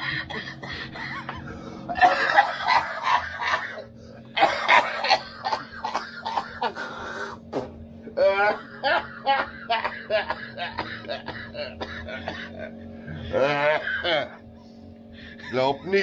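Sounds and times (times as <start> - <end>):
man coughing: 0.0 - 6.9, 8.3 - 14.4
man laughing: 0.0 - 6.9, 8.2 - 14.4, 15.2 - 16.0.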